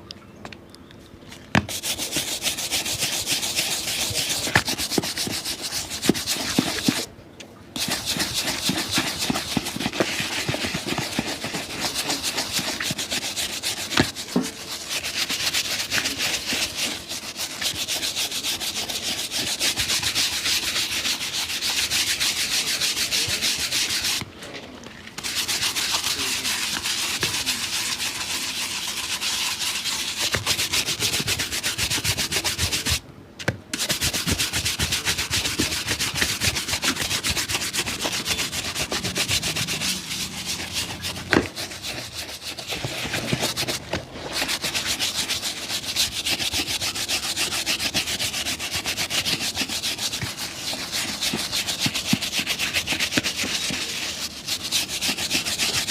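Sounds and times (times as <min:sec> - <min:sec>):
scrubbing a shoe: 0:01.6 - 0:07.1, 0:07.7 - 0:24.3, 0:25.1 - 0:33.0, 0:33.7 - 0:55.9.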